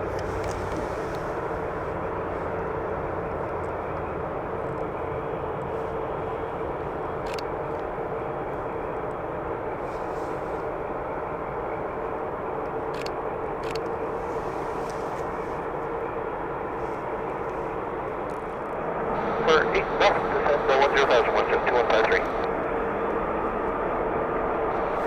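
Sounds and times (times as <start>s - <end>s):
jet engines roaring and whining: 0.0s - 25.0s.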